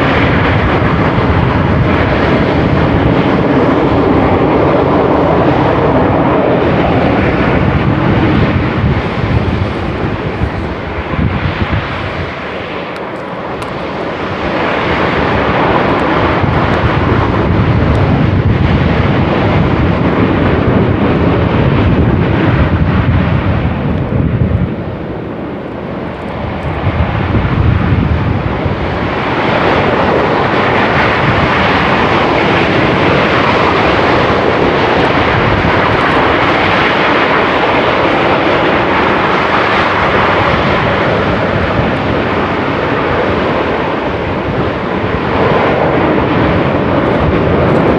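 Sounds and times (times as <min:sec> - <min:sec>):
volcano venting roar: 0:00.0 - 0:47.9.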